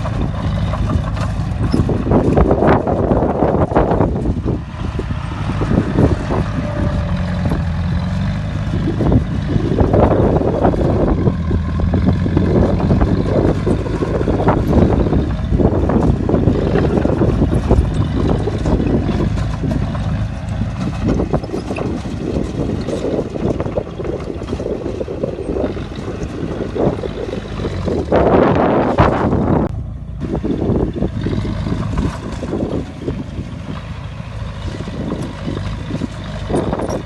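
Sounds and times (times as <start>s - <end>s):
bulldozer diesel engine running: 0.0s - 37.0s
rough mechanical clatter: 0.0s - 37.0s.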